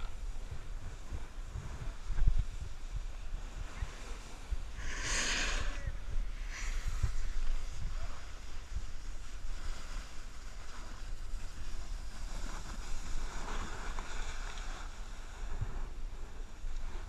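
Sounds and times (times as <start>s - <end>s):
wind on microphone: 0.0s - 17.0s
snowboard scraping on snow: 0.1s - 17.0s.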